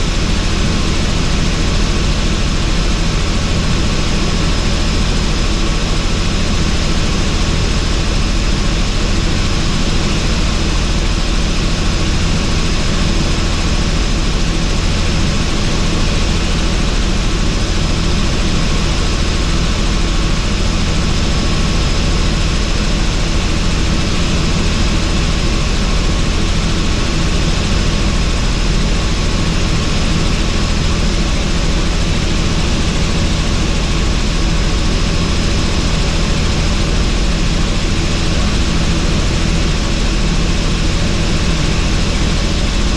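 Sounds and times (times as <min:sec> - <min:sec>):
helicopter rotor and engine drone: 0:00.0 - 0:42.9.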